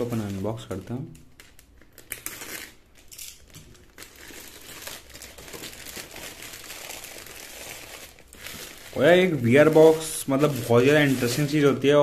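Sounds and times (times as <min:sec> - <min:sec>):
plastic bag tearing: 0:00.0 - 0:12.0
plastic mailer bag crinkling: 0:00.0 - 0:12.0.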